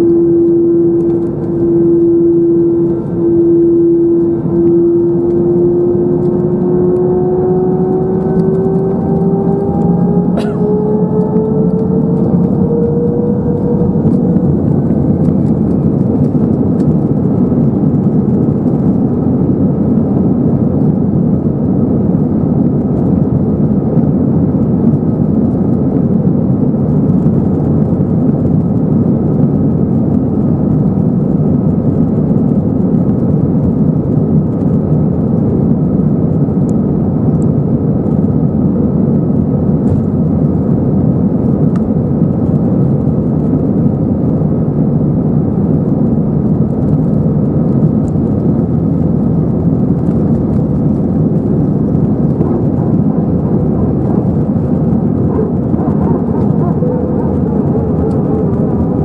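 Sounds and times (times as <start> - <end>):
faint steady whine: 0.0 - 59.0
jet engines humming: 0.0 - 59.0.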